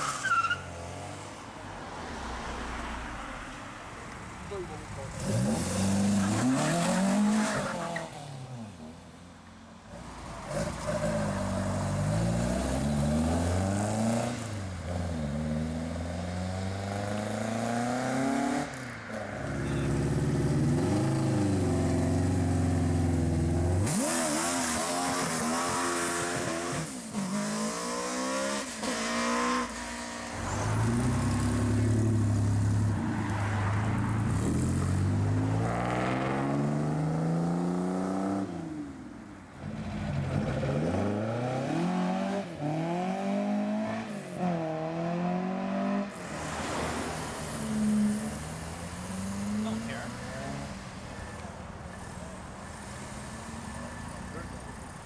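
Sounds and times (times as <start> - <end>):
car engines revving through gears: 5.0 - 8.6, 10.4 - 38.9, 39.6 - 55.0.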